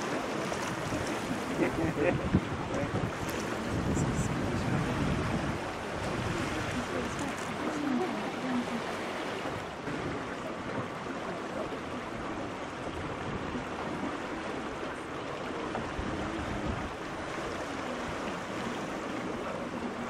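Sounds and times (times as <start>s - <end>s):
water rushing along hull: 0.0s - 20.0s.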